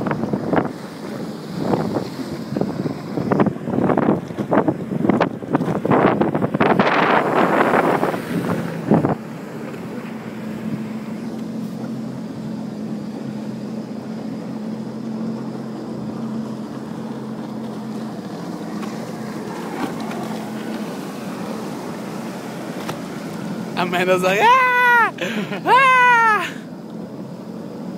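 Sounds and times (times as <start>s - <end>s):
wind rush on microphone: 0.0s - 26.5s
boat engine humming: 0.0s - 27.9s.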